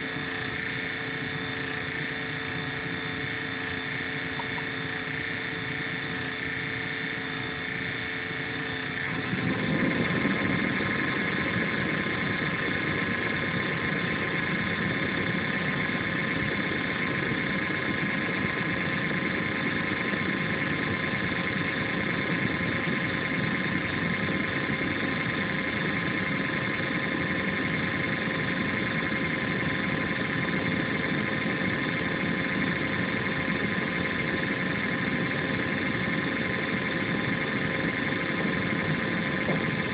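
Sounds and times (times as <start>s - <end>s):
laptop cooling fan whirring: 0.0s - 39.9s.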